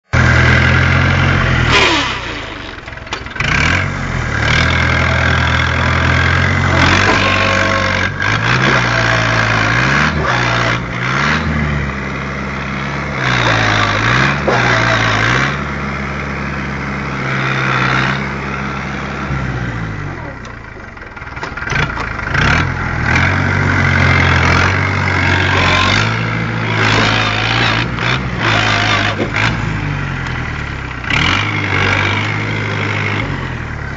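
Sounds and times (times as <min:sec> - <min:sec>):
tractor diesel engines under load: 0:00.0 - 0:33.9.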